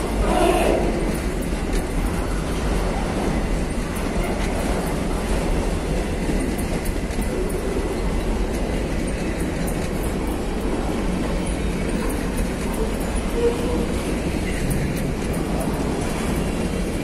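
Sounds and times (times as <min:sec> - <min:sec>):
train wheels rumbling on rail: 0:00.0 - 0:17.0
wagon clicks and clatter: 0:00.9 - 0:17.0.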